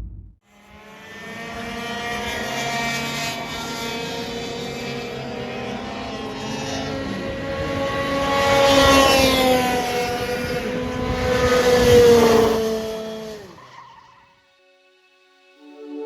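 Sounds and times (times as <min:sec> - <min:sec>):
electric racing motors whining: 0:00.5 - 0:14.4.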